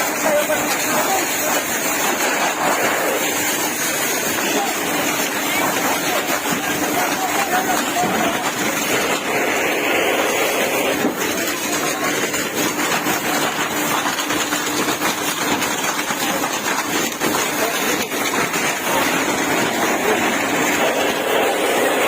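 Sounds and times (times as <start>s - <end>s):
dense background din: 0.0s - 22.0s.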